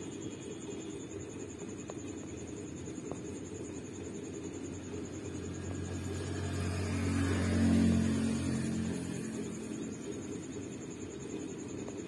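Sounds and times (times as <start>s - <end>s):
low motor hum: 1.8s - 12.0s.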